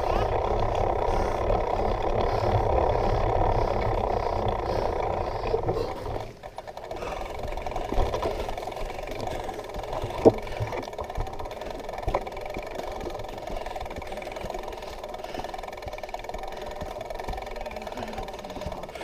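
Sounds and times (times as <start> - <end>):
rumbling wind: 0.0 - 19.0.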